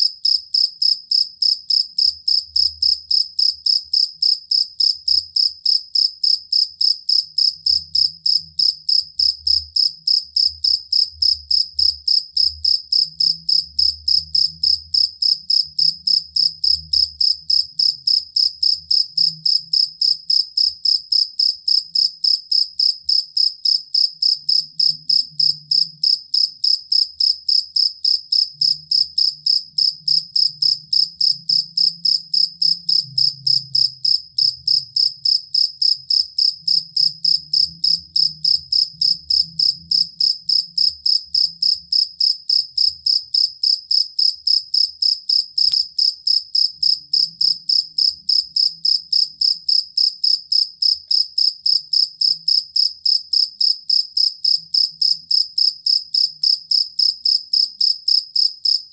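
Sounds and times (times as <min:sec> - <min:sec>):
cricket chirping: 0:00.0 - 0:58.9.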